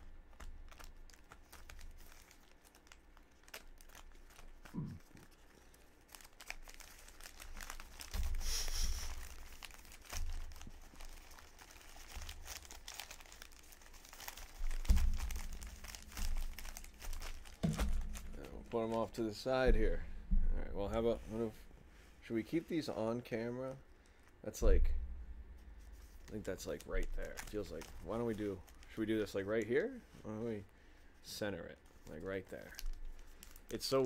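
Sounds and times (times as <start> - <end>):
plastic wrappers crinkling: 0.0 - 30.3, 31.8 - 34.0.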